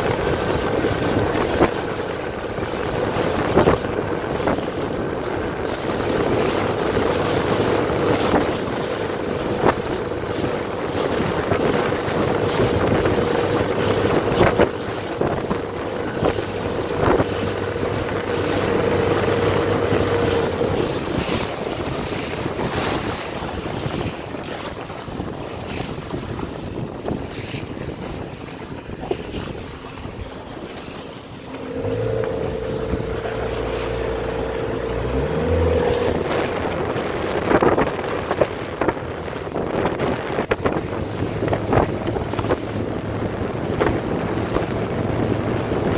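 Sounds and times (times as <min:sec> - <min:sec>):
steady motor hum: 0:00.0 - 0:25.6, 0:27.8 - 0:45.9
water rushing past a hull: 0:00.0 - 0:45.9
water slaps: 0:00.0 - 0:45.9
wind buffeting the microphone: 0:00.0 - 0:45.9.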